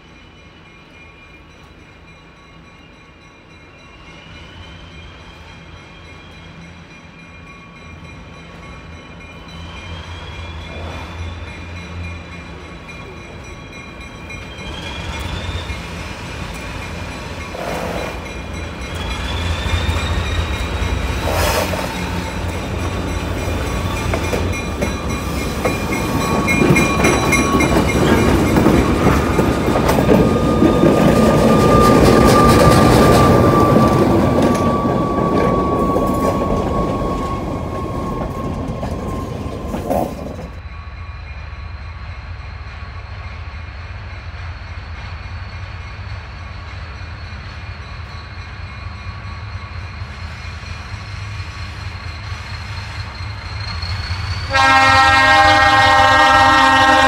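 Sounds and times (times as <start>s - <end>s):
diesel locomotives running: 0.0s - 57.0s
wheel flanges squealing on rail: 0.0s - 57.0s.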